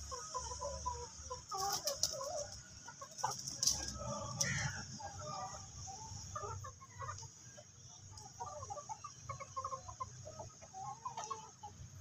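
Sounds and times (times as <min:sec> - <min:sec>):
chickens clucking softly: 0:00.0 - 0:12.0.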